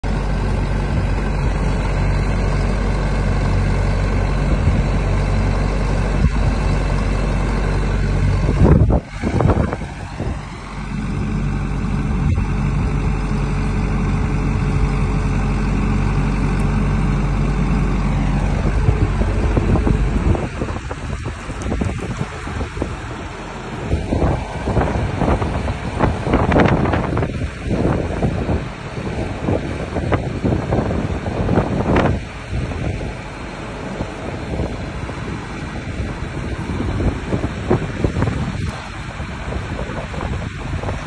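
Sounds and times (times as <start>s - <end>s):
diesel engine running: 0.0s - 41.0s
steady whine: 0.0s - 41.0s.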